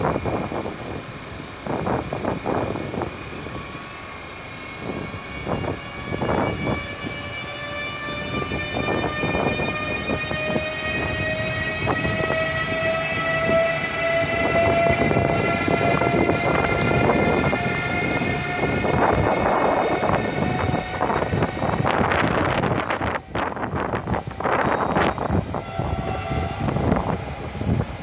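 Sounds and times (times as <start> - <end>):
electric locomotive motor whine: 0.0 - 28.0
train rumble: 0.0 - 28.0.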